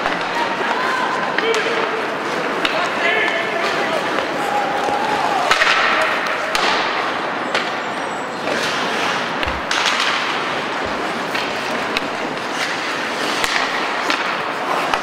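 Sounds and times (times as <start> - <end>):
hockey sticks and puck clacking: 0.0 - 15.0
skates scraping on ice: 0.0 - 15.0.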